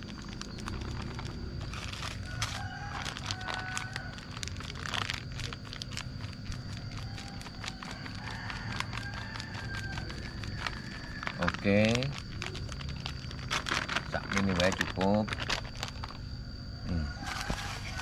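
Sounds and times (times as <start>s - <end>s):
plastic bag crinkling: 0.0s - 16.3s.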